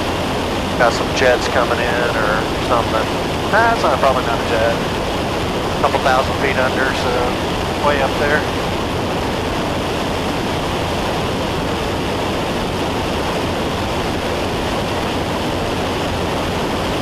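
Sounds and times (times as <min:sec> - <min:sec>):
small plane cockpit engine noise: 0:00.0 - 0:17.0.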